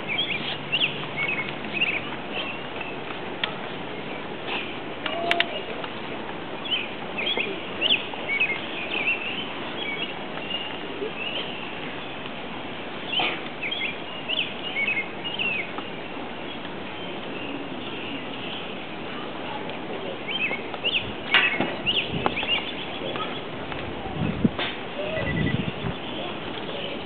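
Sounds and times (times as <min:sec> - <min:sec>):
birds chirping: 0:00.0 - 0:05.8, 0:06.5 - 0:24.3, 0:25.0 - 0:27.0
steady background noise: 0:00.0 - 0:27.0.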